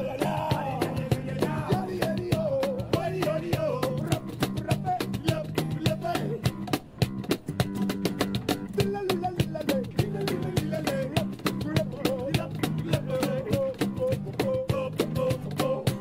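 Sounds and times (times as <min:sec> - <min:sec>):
man singing: 0:00.0 - 0:06.5, 0:08.7 - 0:16.0
fast percussive beat: 0:00.0 - 0:16.0.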